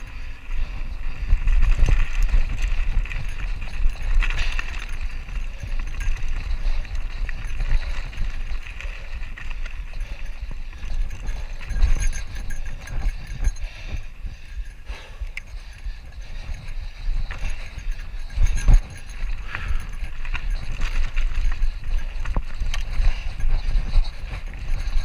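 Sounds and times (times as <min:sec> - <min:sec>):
bike tyres crunching on gravel: 0:00.0 - 0:12.9, 0:17.1 - 0:25.0
wind rumble on microphone: 0:00.0 - 0:25.0.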